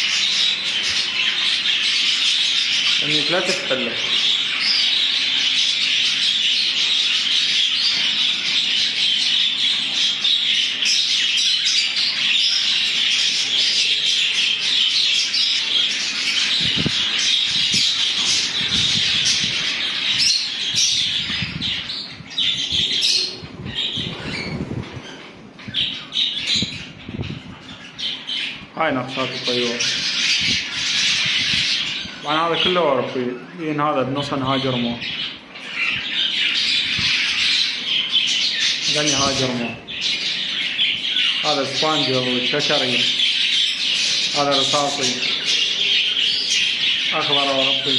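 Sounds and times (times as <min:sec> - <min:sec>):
budgerigars chattering and squawking: 0:00.0 - 0:47.9.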